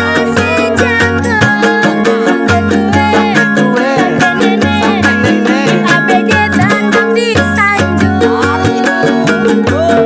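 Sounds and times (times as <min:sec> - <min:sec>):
people singing: 0:00.0 - 0:10.0
plastic pipe hand drum: 0:00.0 - 0:10.0
ukuleles strummed: 0:00.0 - 0:10.0.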